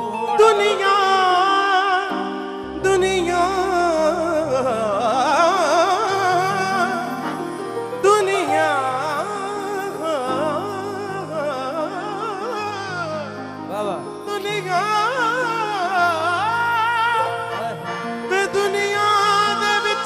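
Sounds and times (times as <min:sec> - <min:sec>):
harmonium chords: 0:00.0 - 0:20.0.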